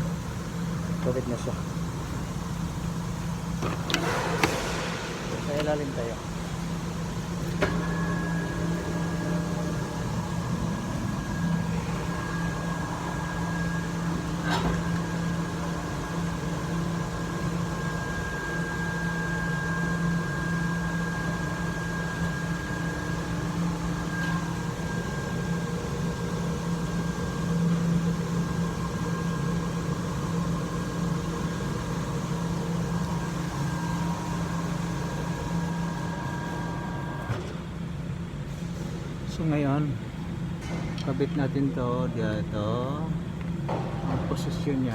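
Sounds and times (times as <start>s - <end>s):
motor humming: 0.0s - 37.5s.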